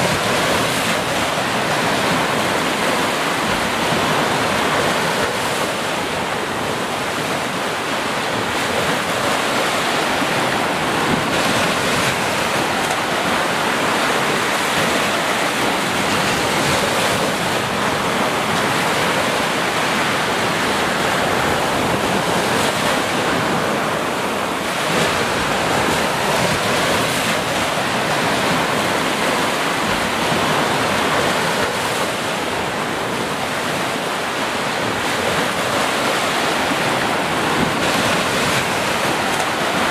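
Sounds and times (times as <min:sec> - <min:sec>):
waves breaking on sandy shore: 0:00.0 - 0:39.9.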